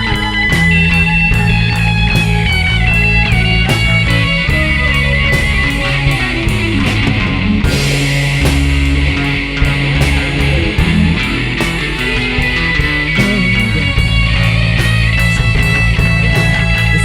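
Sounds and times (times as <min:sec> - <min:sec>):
bass: 0:00.0 - 0:17.0
electric guitar lines: 0:00.0 - 0:17.0
steady drum beat: 0:00.0 - 0:17.0.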